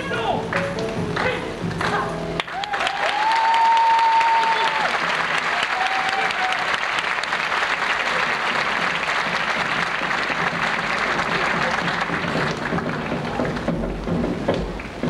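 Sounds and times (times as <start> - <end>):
audience applauding: 0.5 - 15.0.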